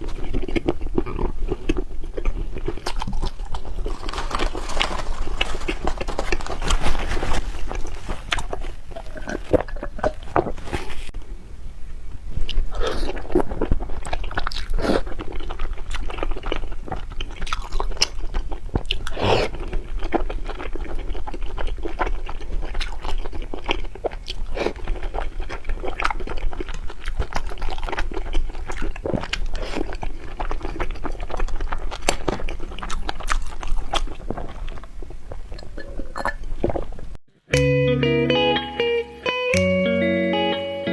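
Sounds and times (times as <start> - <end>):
close chewing and biting: 0.0 - 11.2, 12.4 - 37.2.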